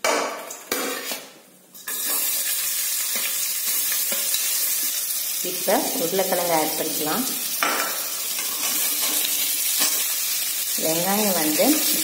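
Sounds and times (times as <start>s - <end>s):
onions sizzling in hot oil: 1.8s - 12.0s.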